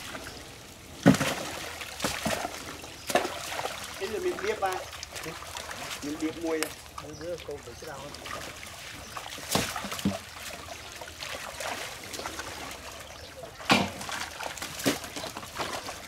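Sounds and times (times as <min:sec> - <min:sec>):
sharp water splashes: 0:00.0 - 0:16.0
water trickling: 0:00.0 - 0:16.0.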